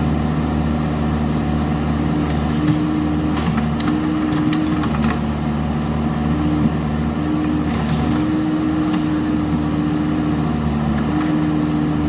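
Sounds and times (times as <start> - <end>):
diesel earthmoving machinery running: 0.0 - 12.0.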